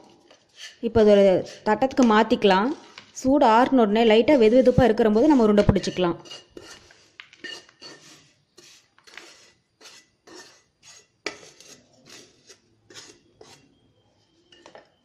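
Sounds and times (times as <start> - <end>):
wooden spatula scraping pan: 0.0 - 13.8.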